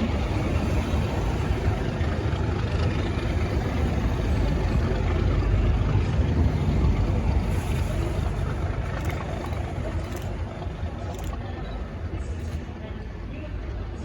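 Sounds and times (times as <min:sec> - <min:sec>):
diesel locomotive engine rumbling: 0:00.0 - 0:14.0.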